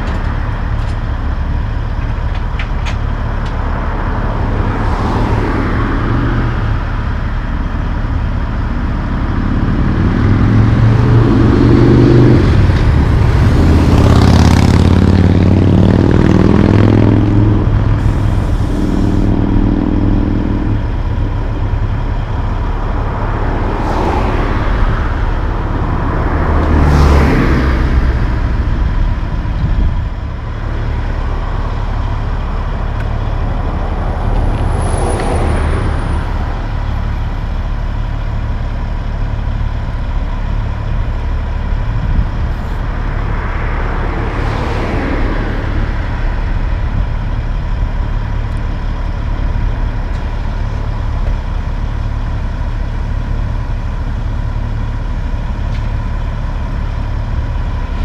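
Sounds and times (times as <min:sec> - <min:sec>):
diesel engine idling: 0:00.0 - 0:58.0
vehicles passing by: 0:00.0 - 0:58.0.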